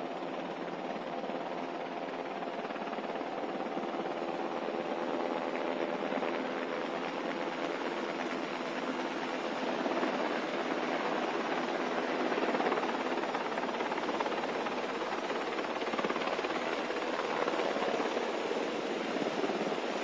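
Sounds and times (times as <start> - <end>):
helicopter rotor: 0.0 - 20.0.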